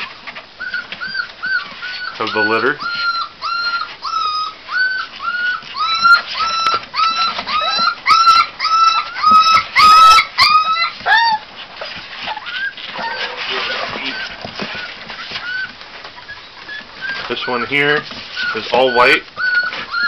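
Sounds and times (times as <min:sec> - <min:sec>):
puppy whimpering: 0:00.0 - 0:20.0
puppy yelping: 0:00.0 - 0:20.0.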